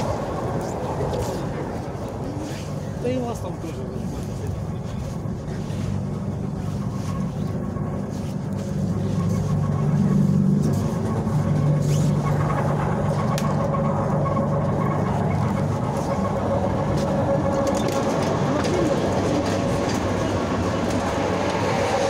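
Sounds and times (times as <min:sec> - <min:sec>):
electric train hum and rumble: 0:00.0 - 0:22.0.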